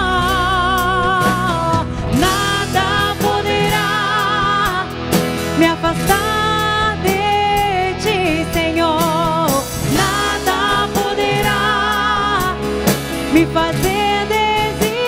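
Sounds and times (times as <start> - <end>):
worship band playing slow pop song: 0.0 - 15.0.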